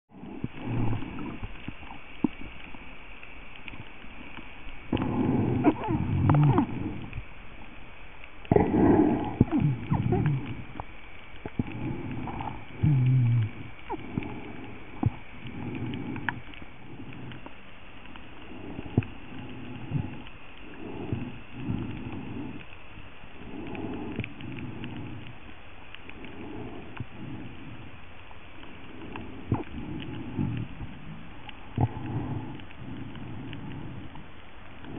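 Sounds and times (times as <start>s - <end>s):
muffled underwater moaning tones: 0.1s - 7.8s, 8.4s - 34.9s.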